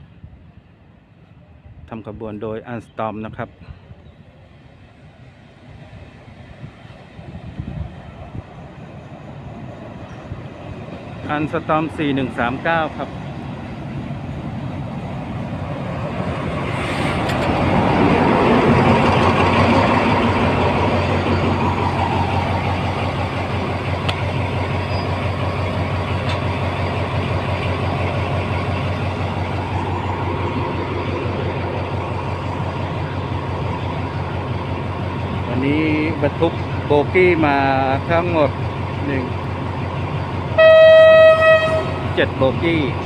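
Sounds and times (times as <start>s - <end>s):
diesel locomotive engine: 0.0s - 43.0s
passenger coaches rumbling on rails: 0.0s - 43.0s.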